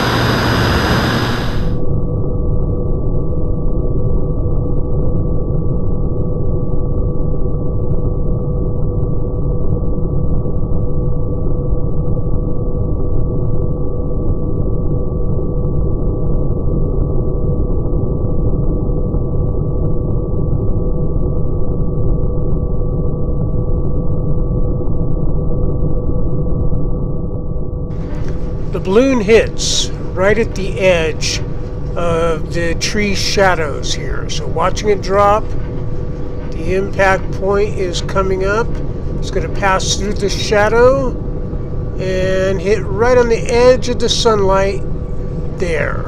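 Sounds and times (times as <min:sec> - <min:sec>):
deep slowed-down rumble: 0:00.0 - 0:46.0.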